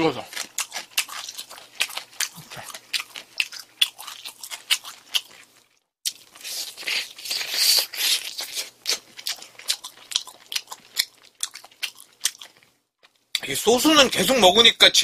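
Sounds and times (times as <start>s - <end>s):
crunching fried chicken: 0.0s - 13.2s.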